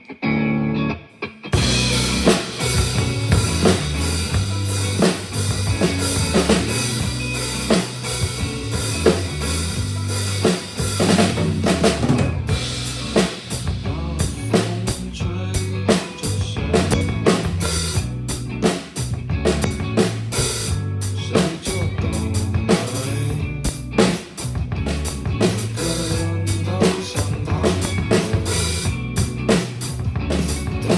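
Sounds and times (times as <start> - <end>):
backing track with bass line: 0.0 - 30.9
drum kit playing rock beat: 1.5 - 30.9.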